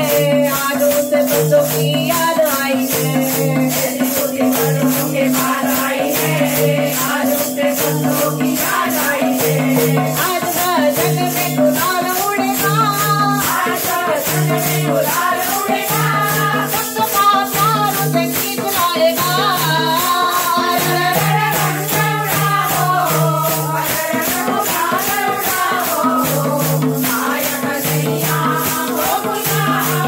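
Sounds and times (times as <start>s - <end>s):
hand drums: 0.0s - 30.0s
women singing in unison: 0.0s - 30.0s.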